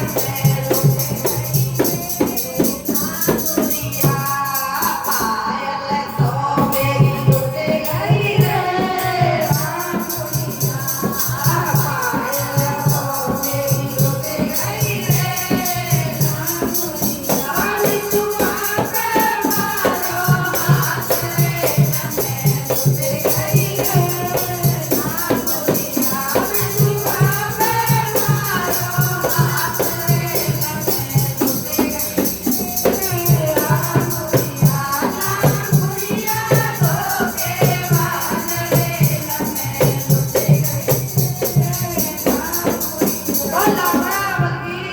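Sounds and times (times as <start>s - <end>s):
percussion beat: 0.0s - 44.7s
person singing folk song: 0.0s - 44.9s.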